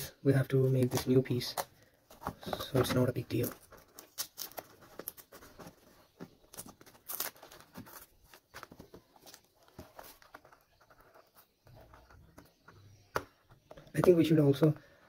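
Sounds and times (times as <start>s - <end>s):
paper and card handling: 0.5s - 14.3s.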